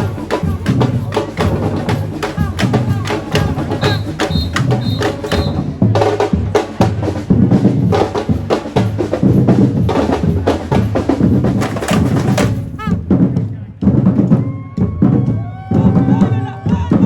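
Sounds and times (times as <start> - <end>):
bass drums: 0.0 - 17.0
street percussion band drumming: 0.0 - 17.0.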